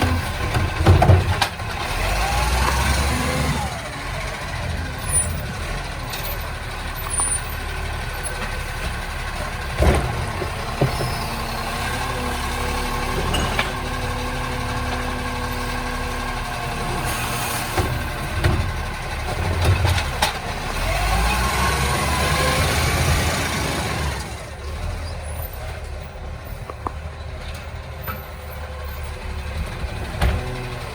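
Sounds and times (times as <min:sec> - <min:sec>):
garbage truck engine rumbling: 0:00.0 - 0:30.9.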